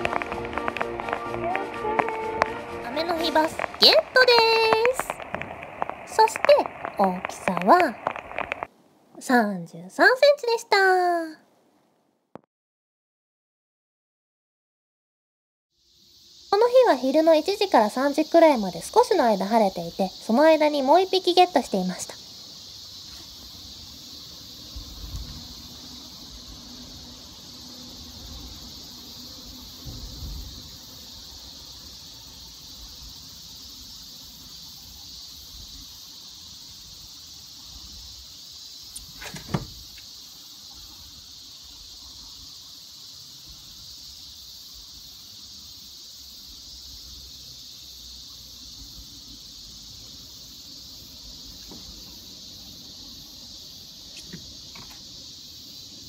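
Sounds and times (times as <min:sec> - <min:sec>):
insects droning: 0:00.0 - 0:12.1, 0:15.7 - 0:56.0.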